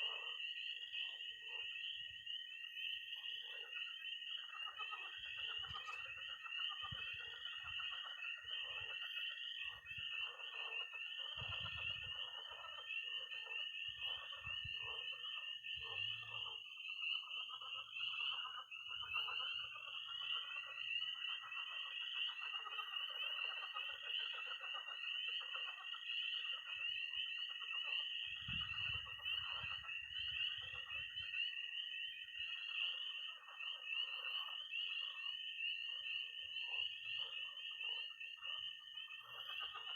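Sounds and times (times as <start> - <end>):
frogs croaking: 0.0 - 39.9
spring peepers peeping: 0.0 - 39.9
toads trilling: 0.0 - 39.9.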